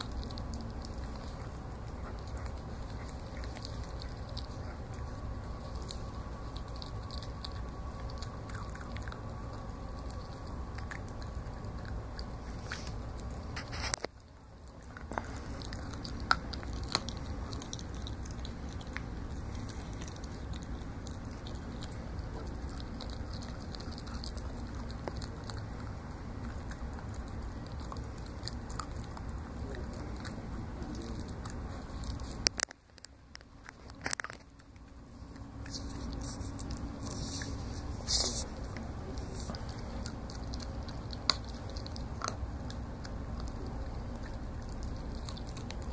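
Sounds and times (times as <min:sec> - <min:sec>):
bone cracking: 0:00.0 - 0:37.0, 0:38.5 - 0:45.9
low hum: 0:00.0 - 0:45.9
puppy chewing and crunching bone: 0:00.0 - 0:45.9.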